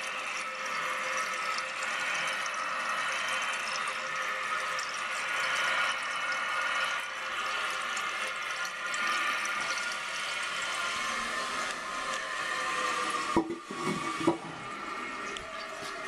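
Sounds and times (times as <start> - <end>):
toilet tank refilling: 0.0 - 16.0.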